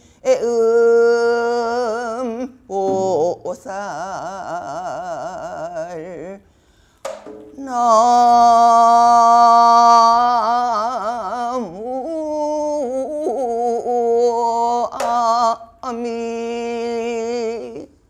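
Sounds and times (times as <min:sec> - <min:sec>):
elderly woman singing with vibrato: 0:00.2 - 0:06.4, 0:07.5 - 0:18.0.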